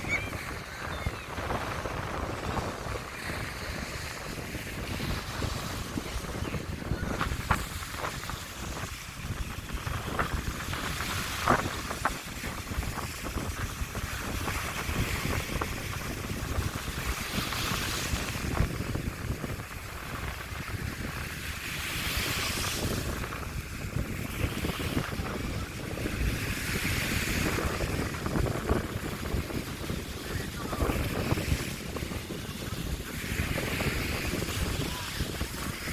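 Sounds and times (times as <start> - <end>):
sea waves breaking on shore: 0.0 - 35.9
surf washing in: 0.0 - 35.9
wind buffeting microphone: 0.0 - 35.9.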